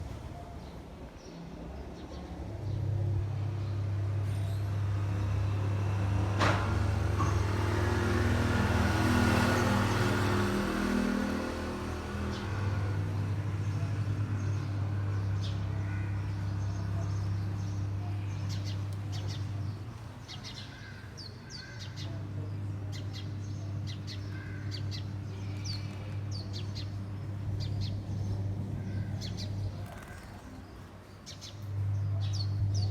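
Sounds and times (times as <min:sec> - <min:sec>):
low mechanical hum: 0:00.0 - 0:20.9, 0:21.6 - 0:32.9
cage birds chirping: 0:00.1 - 0:32.9.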